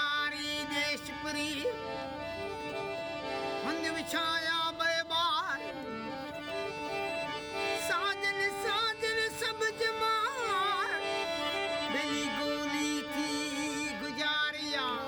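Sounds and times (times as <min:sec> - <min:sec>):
harmonium chords: 0:00.0 - 0:15.0
man singing: 0:00.0 - 0:15.0.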